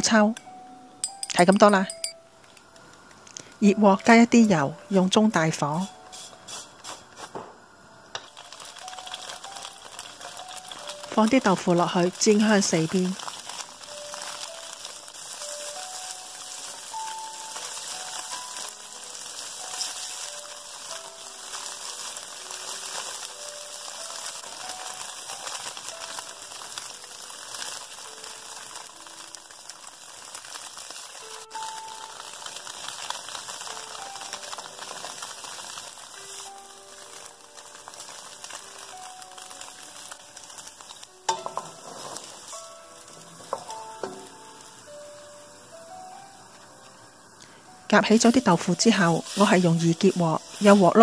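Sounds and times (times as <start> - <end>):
light background music: 0.0 - 51.0
tofu sizzling in oil: 3.4 - 51.0.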